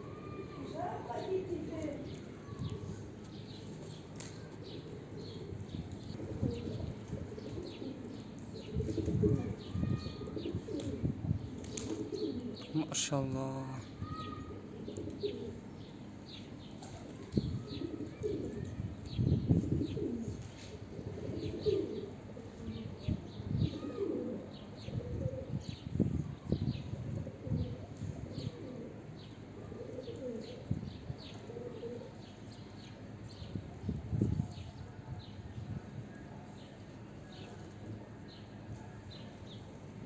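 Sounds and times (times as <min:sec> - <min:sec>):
small birds chirping: 0:00.0 - 0:39.9
pigeons cooing: 0:00.0 - 0:40.0.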